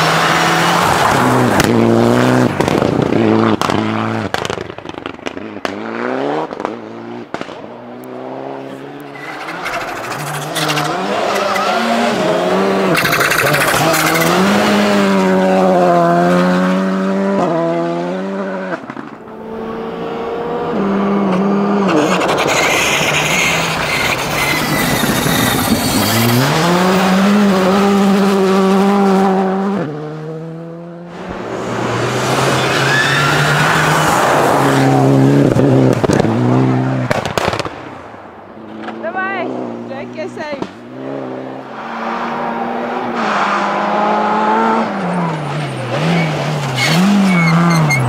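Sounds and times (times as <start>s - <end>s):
rally car engines revving: 0.0s - 37.7s, 38.6s - 48.0s.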